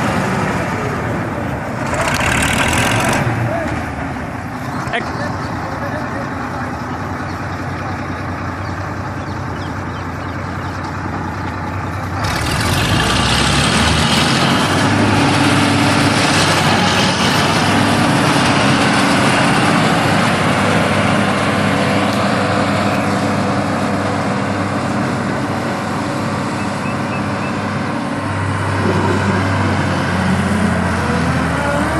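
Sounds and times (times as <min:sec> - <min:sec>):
combine harvester engine running: 0:00.0 - 0:31.9.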